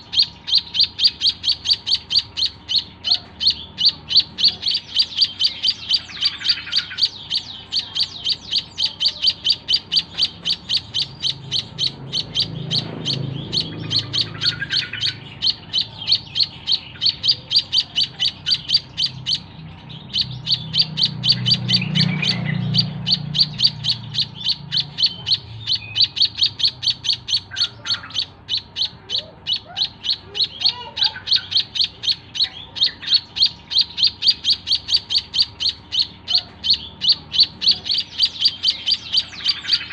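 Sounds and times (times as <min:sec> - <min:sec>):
bird chirping sharply: 0:00.0 - 0:39.9.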